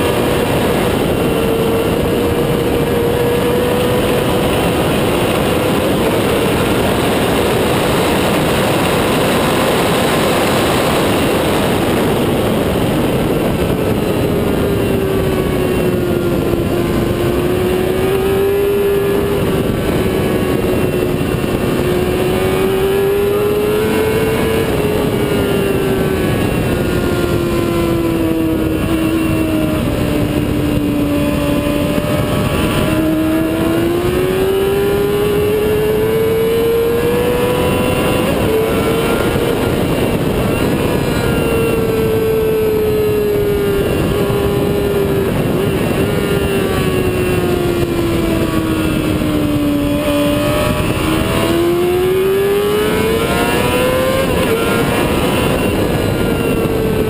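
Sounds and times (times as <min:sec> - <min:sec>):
motorcycle engine running hard: 0:00.0 - 0:57.0
wind noise: 0:00.0 - 0:57.0.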